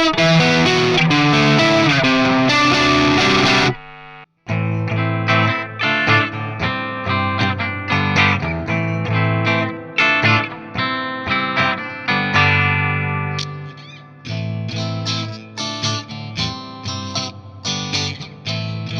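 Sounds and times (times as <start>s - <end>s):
electric guitar picked notes and chords: 0.0s - 18.9s.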